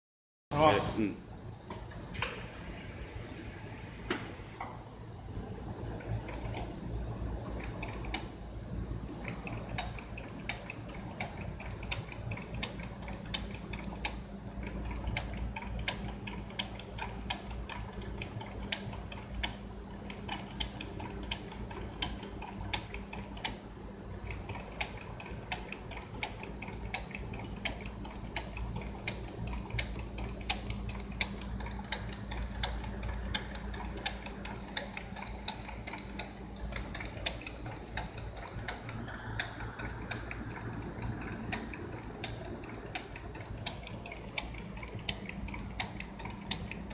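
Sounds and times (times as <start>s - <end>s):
machine humming: 0.5s - 46.9s
sharp mechanical clicks: 5.6s - 46.9s.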